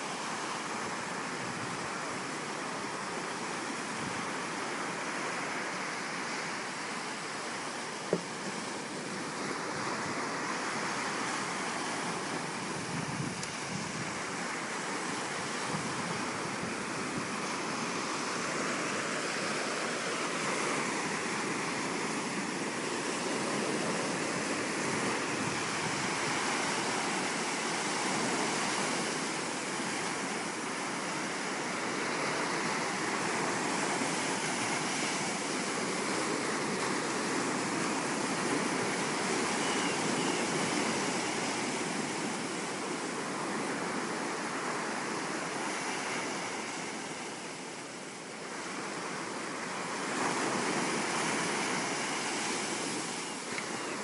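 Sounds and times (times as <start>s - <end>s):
surf washing onto a beach: 0.0s - 54.0s.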